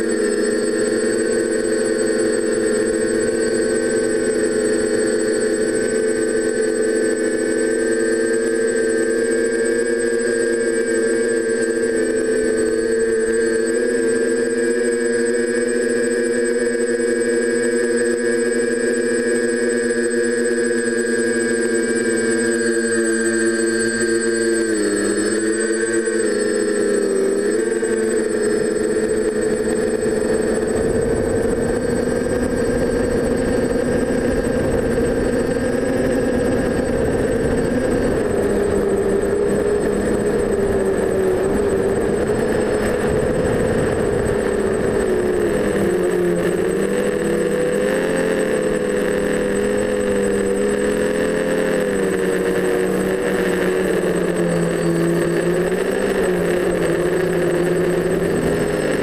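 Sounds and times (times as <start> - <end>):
quadcopter motors buzzing: 0.0 - 59.0
thin high whine: 0.0 - 59.0.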